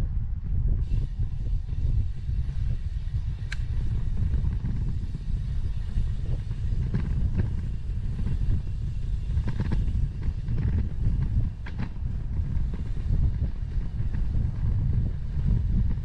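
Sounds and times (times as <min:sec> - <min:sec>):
wind buffeting microphone: 0:00.0 - 0:16.0
bicycle clicks and rattles: 0:00.4 - 0:16.0.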